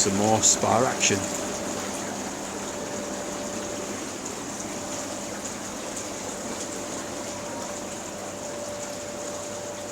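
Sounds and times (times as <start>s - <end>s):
muffled pump hum: 0.0s - 9.9s
water churning and bubbling: 0.0s - 9.9s.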